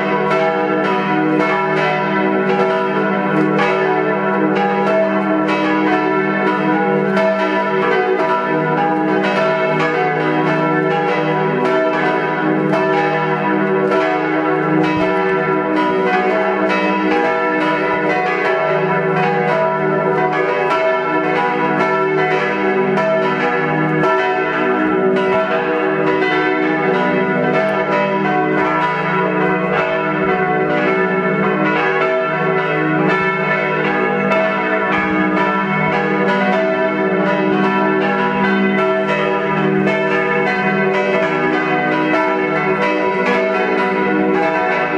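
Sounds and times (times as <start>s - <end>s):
church bells ringing: 0.0s - 44.9s.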